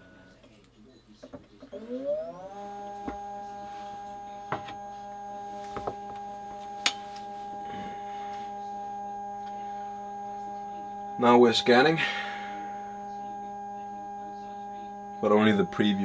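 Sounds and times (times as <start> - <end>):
scanner motor whining: 1.6 - 16.0.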